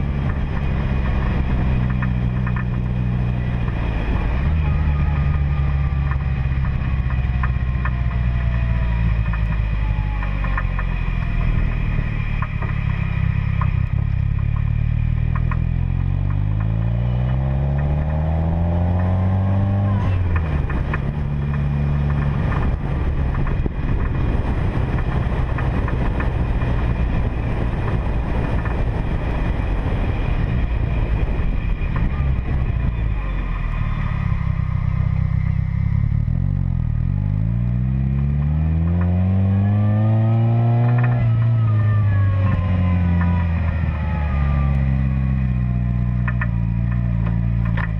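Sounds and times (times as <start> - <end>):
car engine revving while driving: 0.0 - 47.9.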